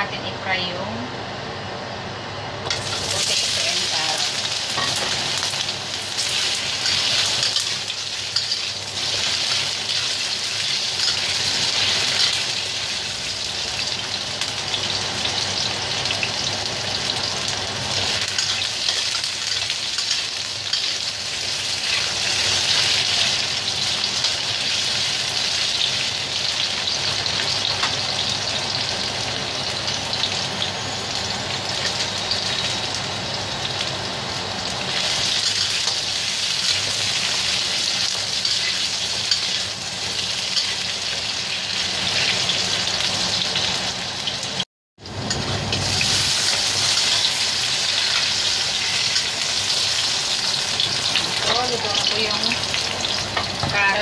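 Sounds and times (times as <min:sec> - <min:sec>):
vegetables sizzling in oil: 0:02.6 - 0:54.0.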